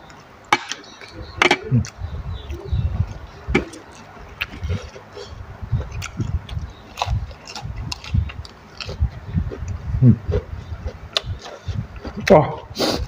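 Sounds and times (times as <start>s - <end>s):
chewing and crunching lettuce: 1.8s - 12.6s.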